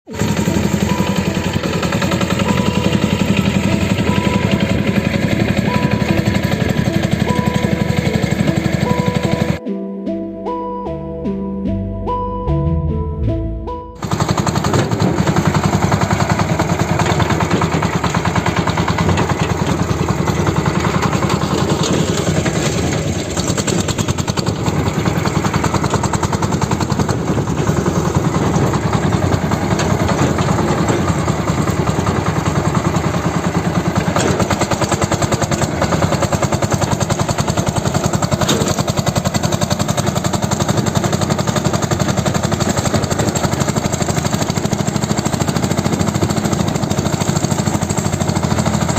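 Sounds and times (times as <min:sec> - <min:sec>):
tractor engine pulsing: 0:00.1 - 0:09.7, 0:12.0 - 0:48.9.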